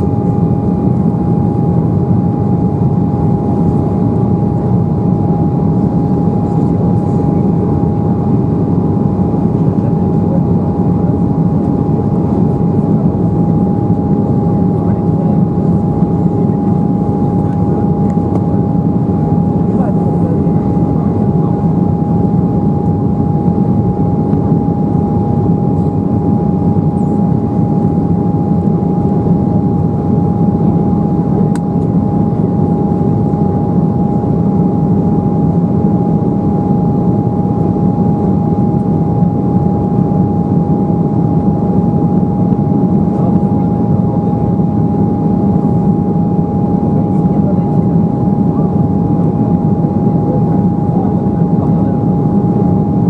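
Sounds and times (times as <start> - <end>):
airliner cabin drone: 0.0 - 53.0
steady engine whine: 0.0 - 53.0.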